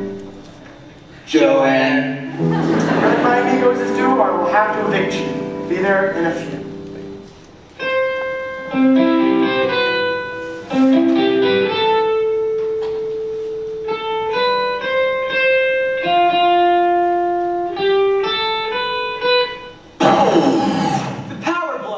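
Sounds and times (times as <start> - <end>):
electric guitar melody: 0.0 - 0.9, 2.2 - 20.0.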